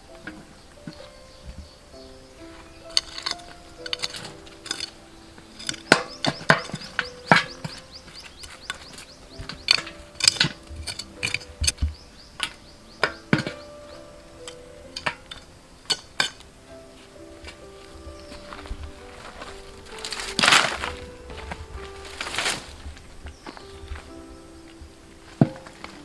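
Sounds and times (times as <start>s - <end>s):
soil scraping: 0.0s - 26.0s.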